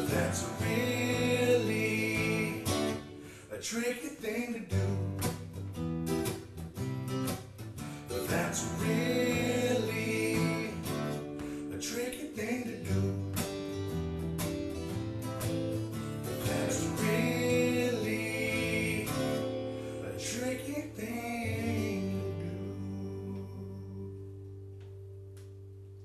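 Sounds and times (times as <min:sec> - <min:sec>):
strummed acoustic guitar: 0:00.0 - 0:25.8.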